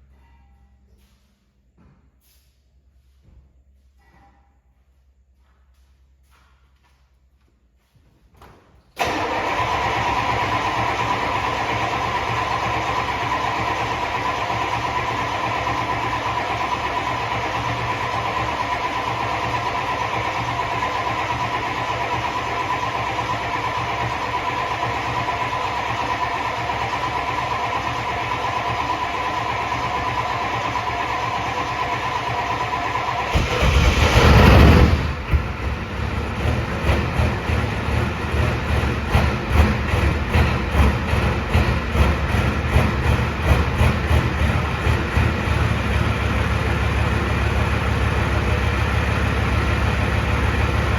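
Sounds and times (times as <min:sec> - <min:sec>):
diesel truck engine running: 0:09.0 - 0:50.9.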